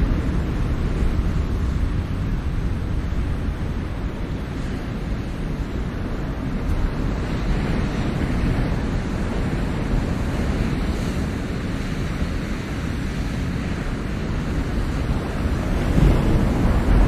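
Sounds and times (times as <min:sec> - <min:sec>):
ocean waves washing on shore: 0:00.0 - 0:17.0
wind buffeting microphone: 0:00.0 - 0:17.0.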